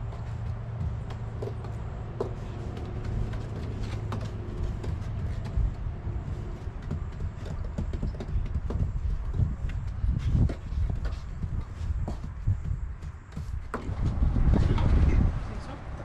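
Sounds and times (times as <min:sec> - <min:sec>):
knocks and scrapes: 0:00.0 - 0:15.4
engine humming: 0:00.0 - 0:16.0.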